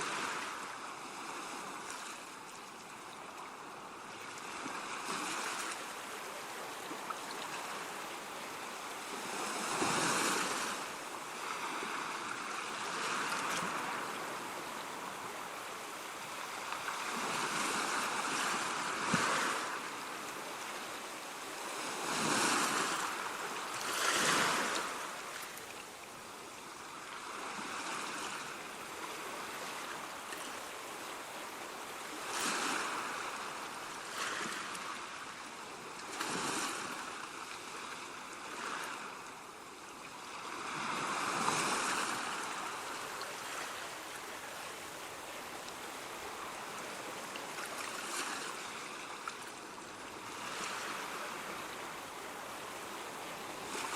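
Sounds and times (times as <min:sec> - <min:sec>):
ocean waves on shore: 0:00.0 - 0:53.9.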